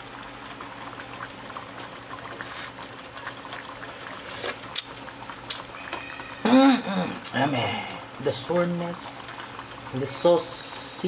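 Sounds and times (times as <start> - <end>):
sauce bubbling and popping in pot: 0.0 - 11.0.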